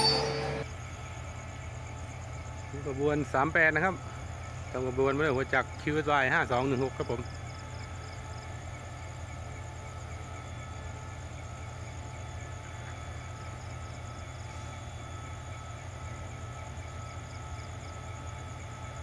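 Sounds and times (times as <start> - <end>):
crickets chirping: 0.0 - 19.0
distant locomotive idling: 0.0 - 19.0.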